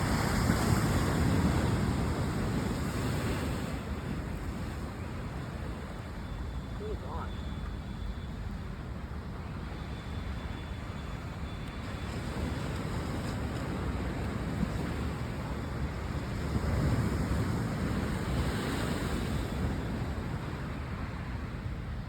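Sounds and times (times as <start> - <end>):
ocean surf on shore: 0.0 - 22.0.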